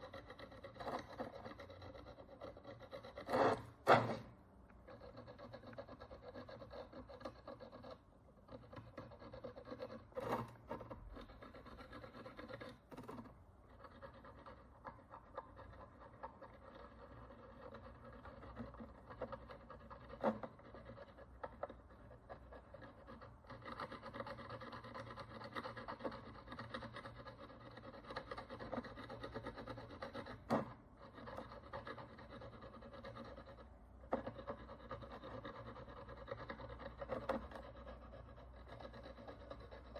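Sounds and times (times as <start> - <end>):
tool rasping on coin: 0.0 - 39.9.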